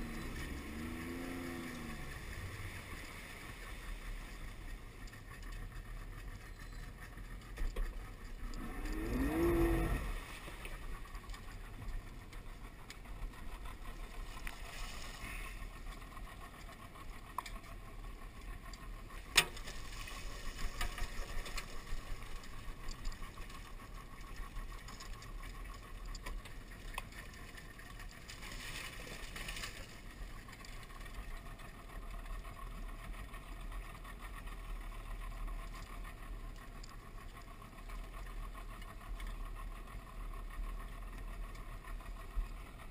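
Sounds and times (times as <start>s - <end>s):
outboard motor rumbling: 0.0s - 42.9s.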